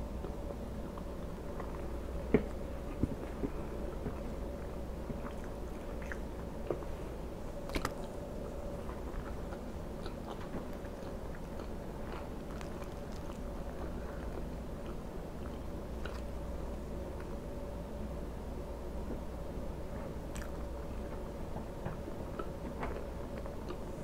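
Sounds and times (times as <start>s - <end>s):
close-miked chewing: 0.0s - 17.8s, 19.8s - 24.0s.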